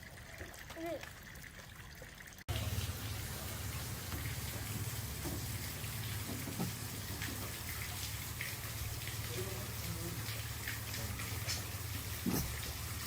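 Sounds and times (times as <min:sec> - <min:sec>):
running water splashing: 0:00.0 - 0:13.0.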